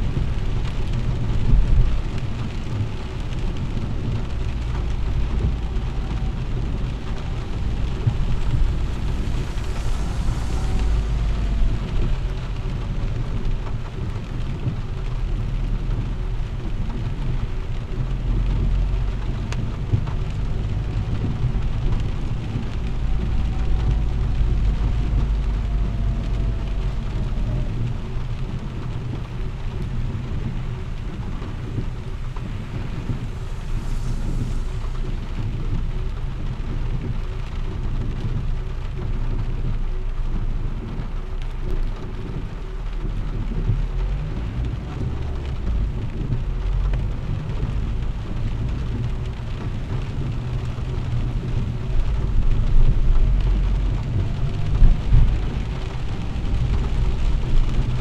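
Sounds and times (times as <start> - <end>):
car engine and tyres rumbling: 0.0 - 58.0
rain and spray hissing: 0.0 - 58.0.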